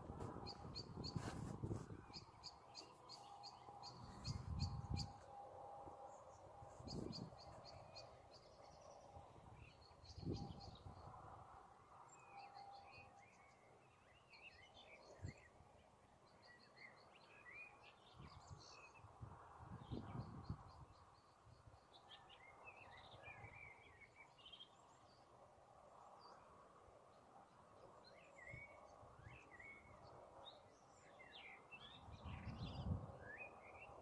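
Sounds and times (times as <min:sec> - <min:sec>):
faint songbirds singing: 0:00.0 - 0:34.0.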